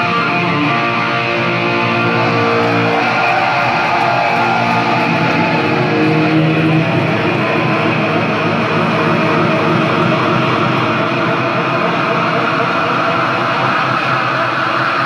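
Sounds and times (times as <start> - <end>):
distorted electric guitar solo: 0.0 - 15.0.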